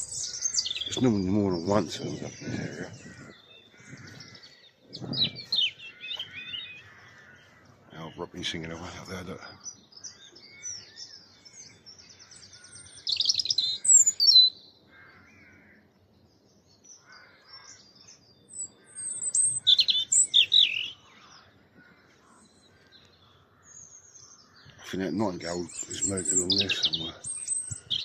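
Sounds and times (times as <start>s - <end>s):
faint bird calls: 0.0s - 28.0s
robin singing: 0.0s - 28.0s.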